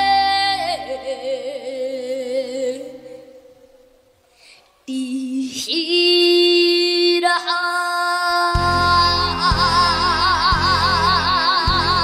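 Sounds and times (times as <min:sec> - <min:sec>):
high young voice singing: 0:00.0 - 0:03.8, 0:04.8 - 0:12.0.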